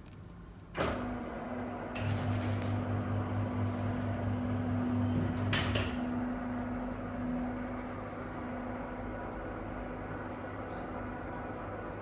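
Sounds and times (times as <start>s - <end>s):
projector screen motor humming: 0.8s - 12.0s.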